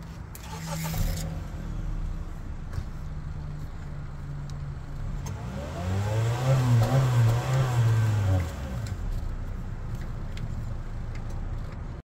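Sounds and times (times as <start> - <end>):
car engine idling: 0.4 - 12.0.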